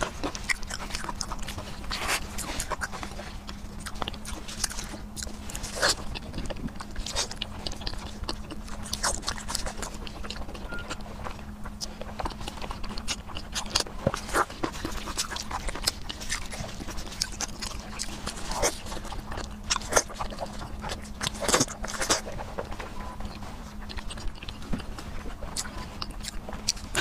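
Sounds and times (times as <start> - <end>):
wet chewing and lip-smacking: 0.0 - 27.0.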